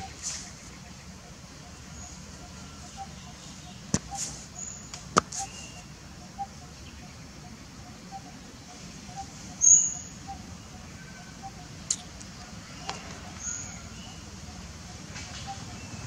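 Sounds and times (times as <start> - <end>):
very high bird chirp: 0.0 - 7.2, 9.1 - 16.0.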